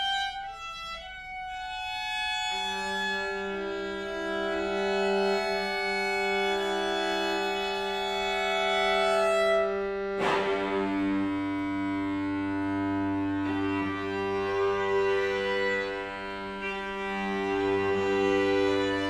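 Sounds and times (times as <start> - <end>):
string quartet sustained chords: 0.0 - 19.0.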